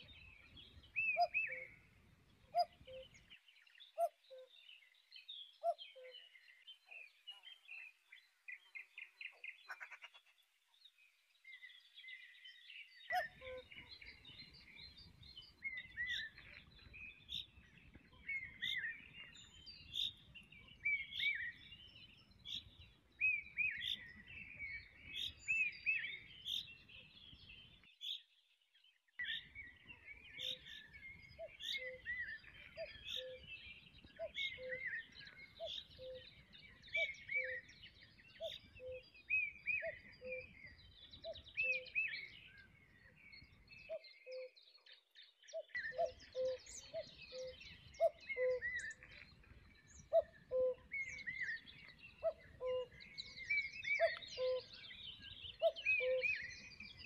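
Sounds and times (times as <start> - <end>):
birds chirping and singing: 0.0 - 28.3, 29.2 - 57.0.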